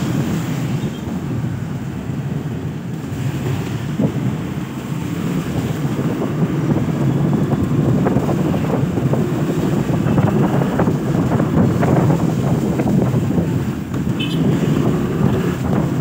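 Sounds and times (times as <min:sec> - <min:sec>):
wind rush over microphone: 0:00.0 - 0:16.0.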